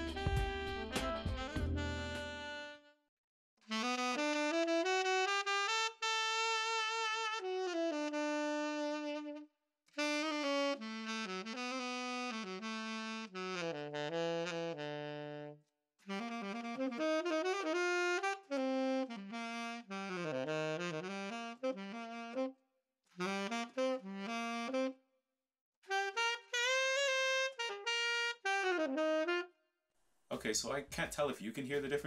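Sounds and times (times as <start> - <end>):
tenor saxophone solo: 0.0 - 3.0, 3.7 - 22.6, 23.2 - 25.0, 25.8 - 29.5.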